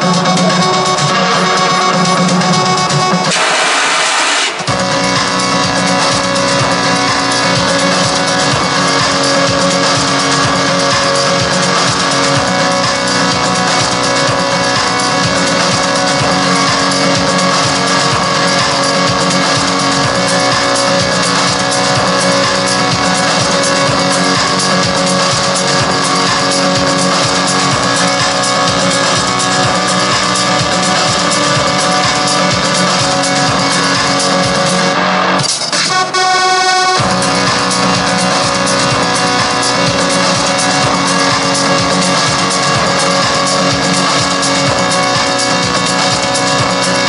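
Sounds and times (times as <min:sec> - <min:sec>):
loud music with guitar: 0:00.0 - 0:47.0.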